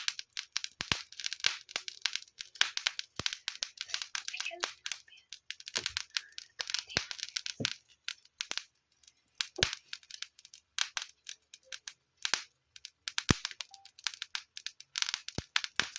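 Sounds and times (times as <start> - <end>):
fire crackling and popping: 0.0 - 15.9.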